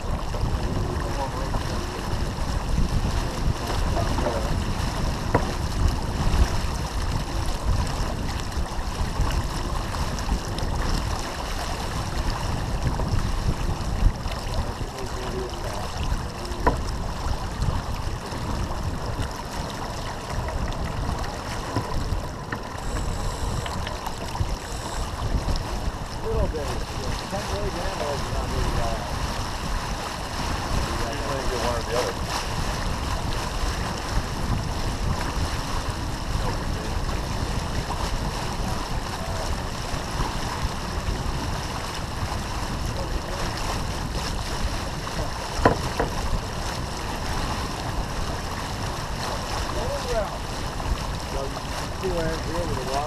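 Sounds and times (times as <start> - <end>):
water rushing along hull: 0.0 - 53.0
wind buffeting microphone: 0.0 - 53.0.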